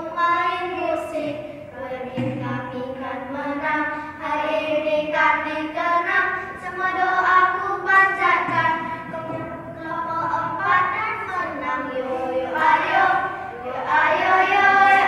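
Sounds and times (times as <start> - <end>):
children singing: 0.9 - 15.0.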